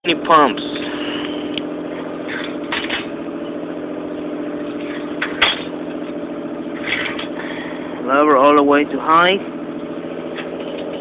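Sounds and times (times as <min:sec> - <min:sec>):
camp stove burning hum: 0:00.0 - 0:11.0.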